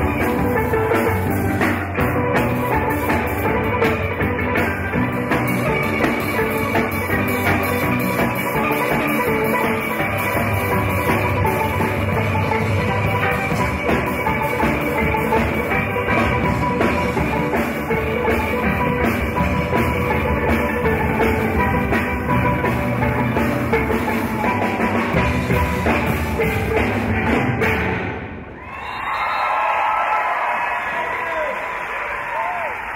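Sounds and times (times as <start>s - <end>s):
steelpans playing: 0.0s - 28.2s
drum kit beat: 0.0s - 28.5s.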